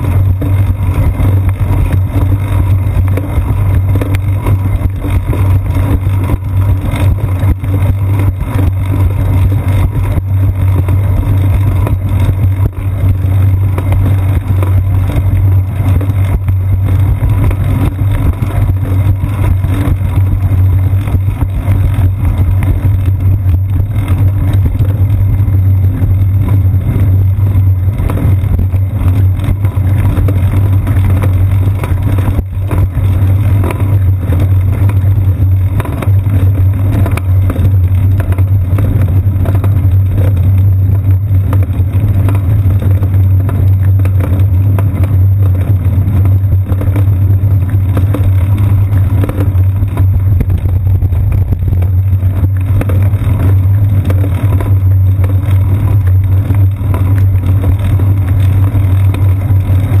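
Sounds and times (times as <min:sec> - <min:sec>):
road vibration rumble: 0:00.0 - 1:00.0
wind rumble: 0:00.0 - 1:00.0.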